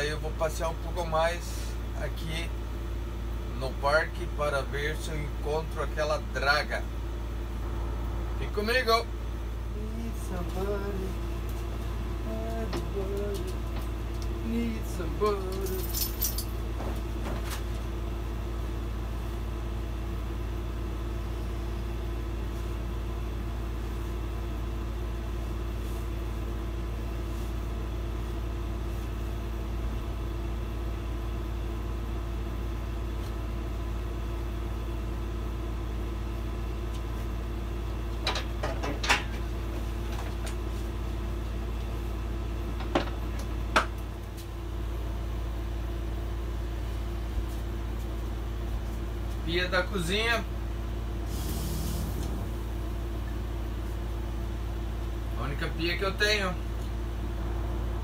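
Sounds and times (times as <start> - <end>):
air conditioner humming: 0.0 - 58.0.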